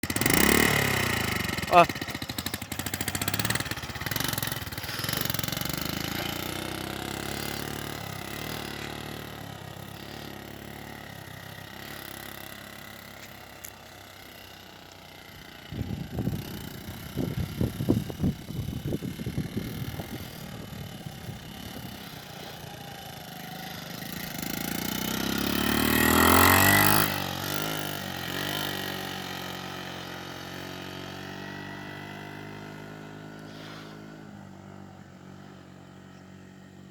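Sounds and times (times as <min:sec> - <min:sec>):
motorcycle engine: 0:00.0 - 0:36.9.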